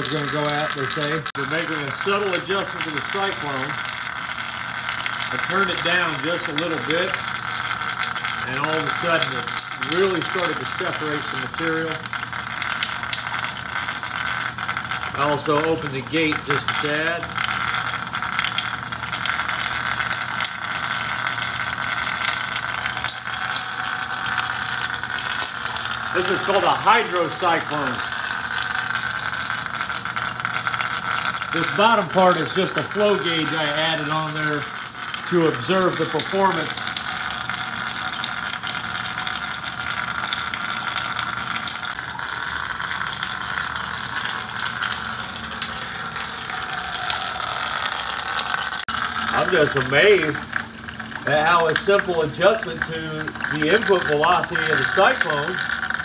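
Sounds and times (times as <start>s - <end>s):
water pump hum: 0.0s - 56.0s.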